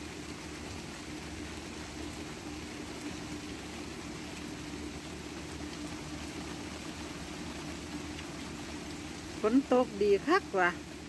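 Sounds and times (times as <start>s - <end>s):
low steady hum: 0.0s - 11.0s
steady rain falling: 0.0s - 11.0s.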